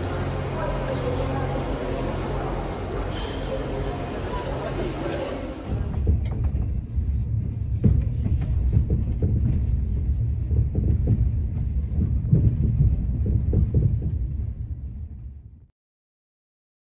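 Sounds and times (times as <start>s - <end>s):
train rumble inside carriage: 0.0s - 15.5s.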